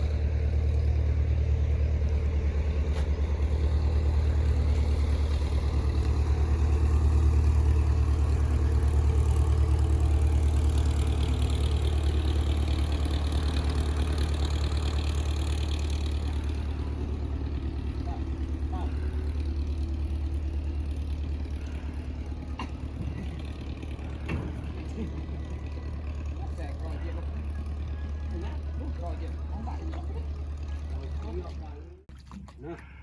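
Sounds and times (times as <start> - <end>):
small boat engine running: 0.0 - 33.0.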